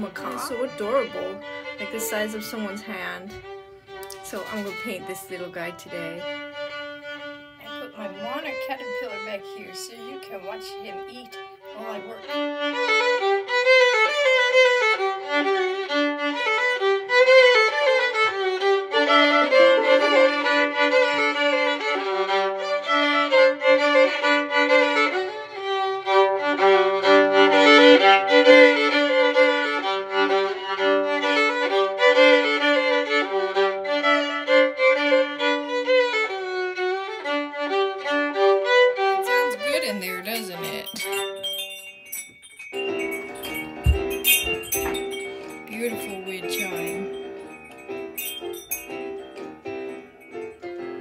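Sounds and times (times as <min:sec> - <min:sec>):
instrumental melody with vibrato: 0:00.0 - 0:51.0.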